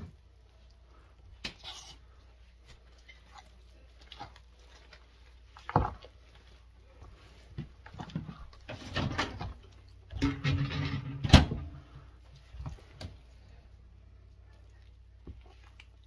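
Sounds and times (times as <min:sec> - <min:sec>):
wet slapping of spoon in dough: 0:00.0 - 0:10.3, 0:11.8 - 0:16.0.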